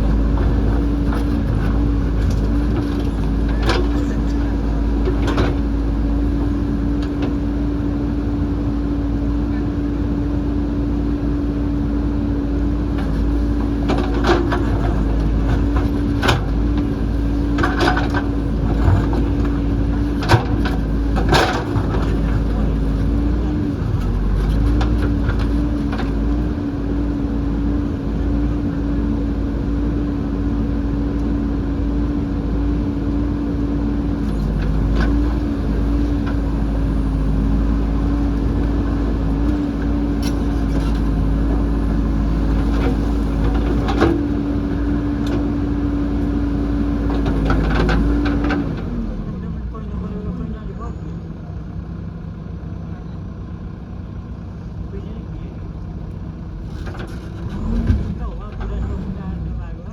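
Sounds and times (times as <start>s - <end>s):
backhoe diesel engine running: 0.0s - 59.9s.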